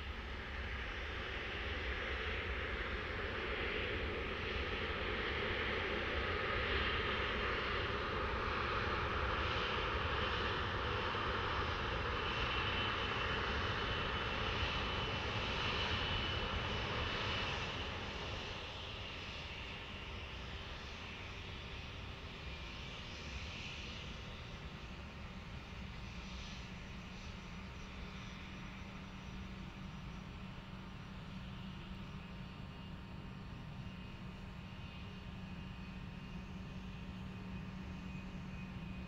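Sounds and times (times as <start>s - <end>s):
jet engines rushing with whine: 0.0s - 39.0s.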